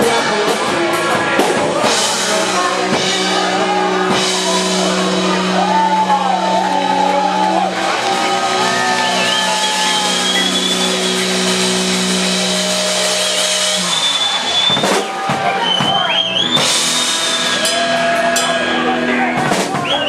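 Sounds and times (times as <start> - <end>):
drum and cymbal hits: 0.0 - 20.0
live rock band playing: 0.0 - 20.0.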